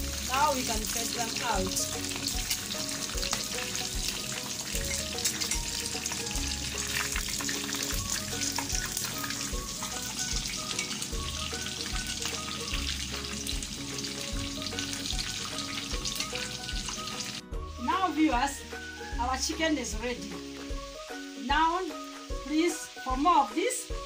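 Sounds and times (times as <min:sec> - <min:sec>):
background music: 0:00.0 - 0:24.0
chicken deep-frying in oil: 0:00.0 - 0:24.0.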